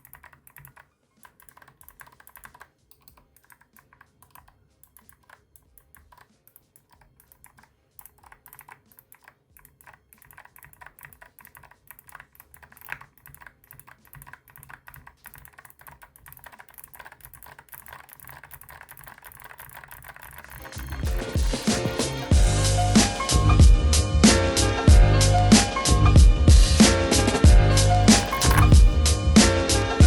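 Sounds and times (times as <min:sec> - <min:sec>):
clicky mechanical keyboard typing: 0:00.0 - 0:23.6, 0:28.0 - 0:29.0.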